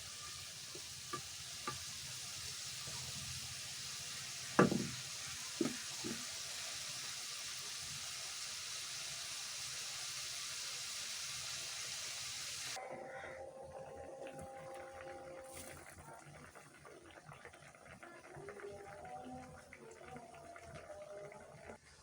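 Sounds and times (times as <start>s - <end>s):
prawns sizzling in oil: 0.0s - 12.8s, 13.9s - 21.8s.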